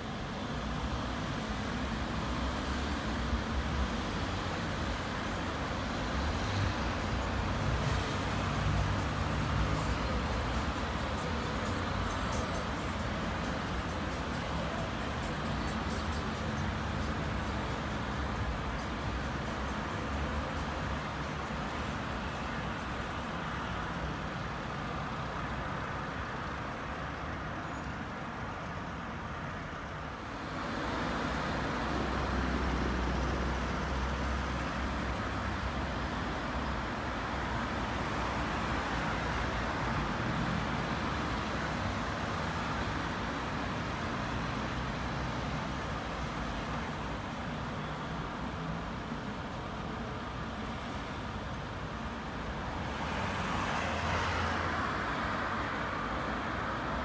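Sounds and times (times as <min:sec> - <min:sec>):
deep traffic rumble: 0:00.0 - 0:27.6, 0:28.2 - 0:57.0
passing cars: 0:00.0 - 0:57.0.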